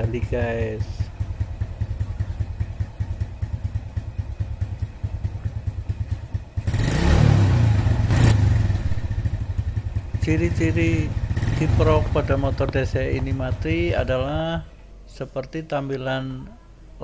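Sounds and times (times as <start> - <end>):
motorcycle engine idling and revving: 0.0 - 14.7.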